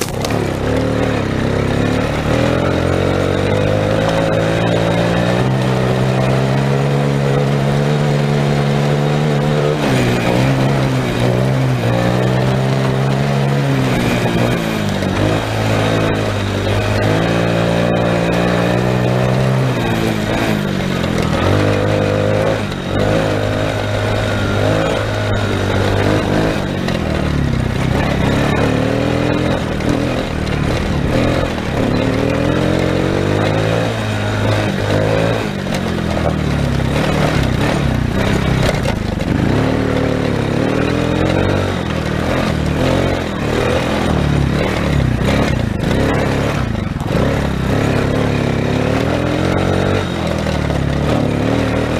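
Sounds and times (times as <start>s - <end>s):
small engine revving: 0.0s - 51.9s.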